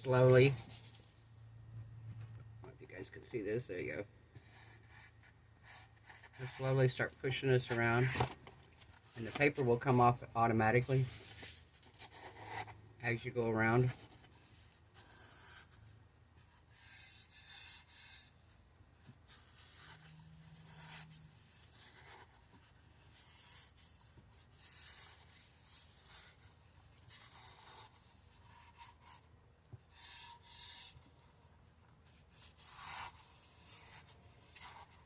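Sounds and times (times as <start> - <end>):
faint rubbing strokes on vinyl: 0.0 - 2.3, 2.9 - 8.2, 9.0 - 35.0.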